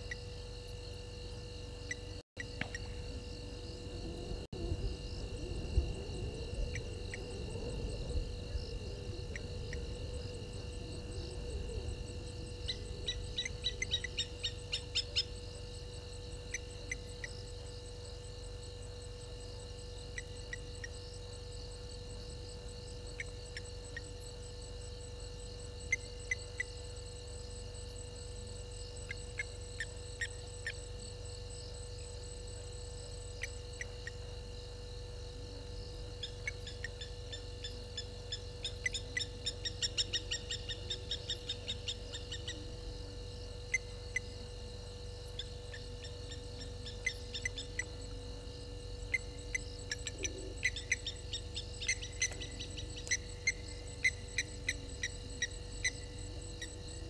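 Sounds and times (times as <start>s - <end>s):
faint steady hum: 0.0s - 57.0s
insects chirping: 0.0s - 57.0s.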